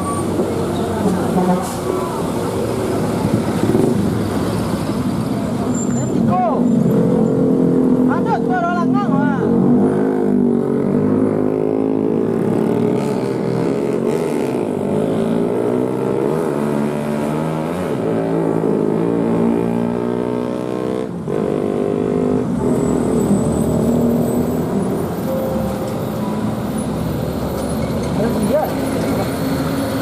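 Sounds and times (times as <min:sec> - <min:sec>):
car engines accelerating: 0:00.0 - 0:30.0.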